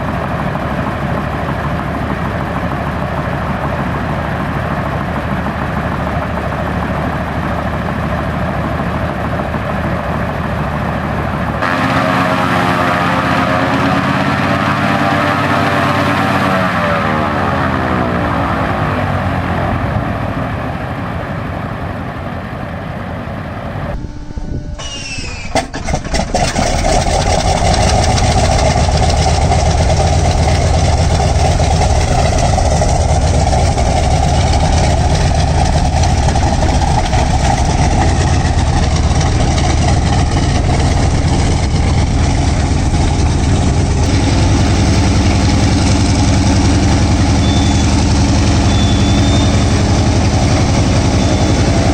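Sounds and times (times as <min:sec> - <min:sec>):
engine pitch falling: 0:00.0 - 0:51.9
radial engine starting and running: 0:00.0 - 0:51.9.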